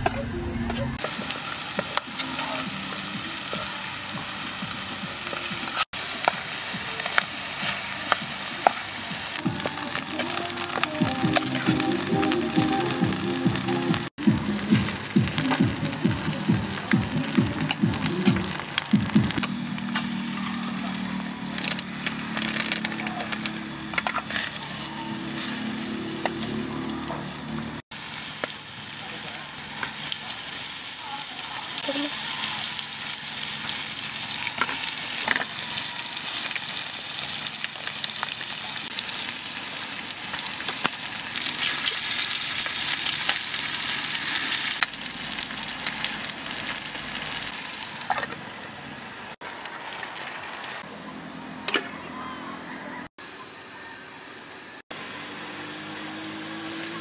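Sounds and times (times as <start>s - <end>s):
butter sizzling in a pan: 1.0s - 13.6s, 14.2s - 50.8s
meat frying with loud sizzle: 1.0s - 50.9s.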